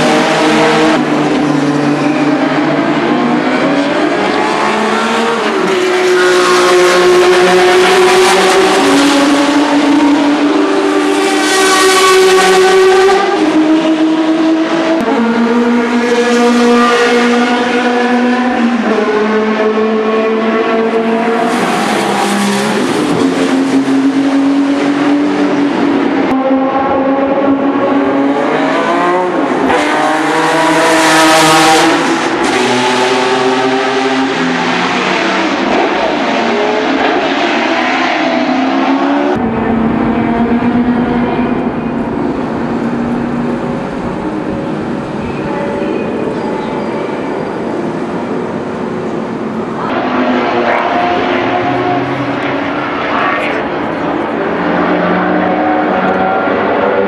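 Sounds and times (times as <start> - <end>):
racing cars passing at full throttle: 0.0 - 57.0.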